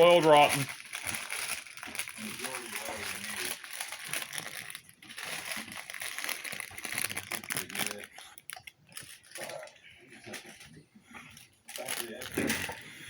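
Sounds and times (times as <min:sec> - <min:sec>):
wrapping paper crinkling and tearing: 0:00.0 - 0:10.6, 0:11.3 - 0:13.0.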